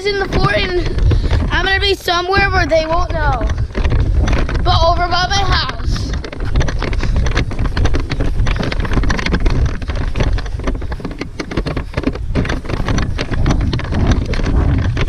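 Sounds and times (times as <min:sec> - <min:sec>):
clicks and rustles: 0:00.0 - 0:15.0
wind buffeting microphone: 0:00.0 - 0:15.0.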